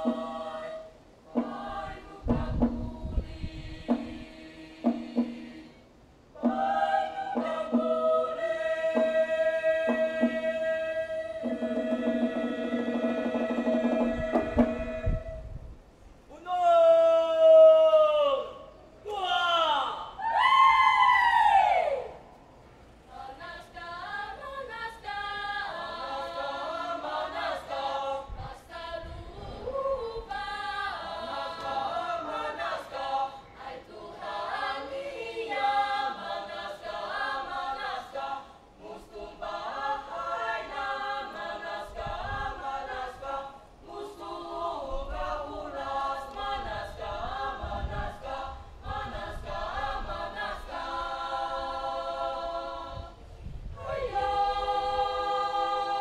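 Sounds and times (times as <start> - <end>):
children singing a cappella: 0.0 - 15.4, 23.1 - 56.0.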